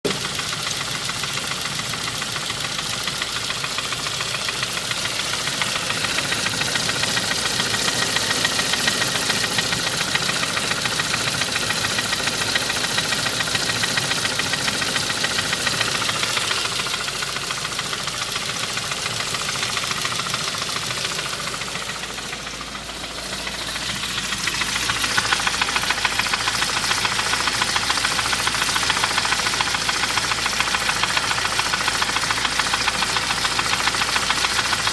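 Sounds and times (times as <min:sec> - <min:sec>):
engine ticking knock: 0:00.0 - 0:34.9.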